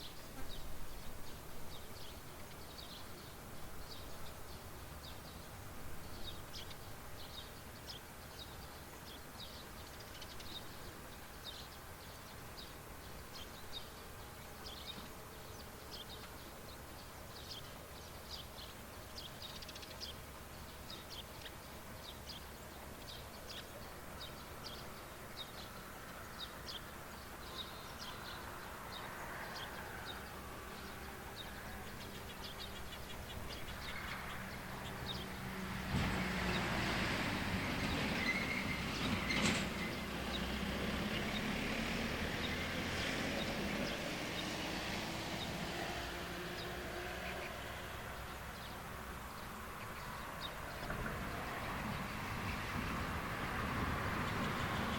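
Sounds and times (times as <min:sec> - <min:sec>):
small birds chirping: 0:00.0 - 0:37.0, 0:37.8 - 0:53.1
low outdoor background: 0:00.0 - 0:54.9
soft rush of noise: 0:00.0 - 0:54.9.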